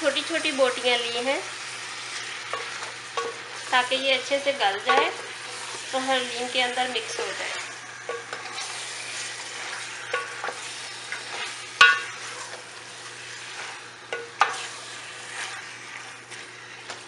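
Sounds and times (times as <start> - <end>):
beef sizzling in oil: 0.0 - 17.0.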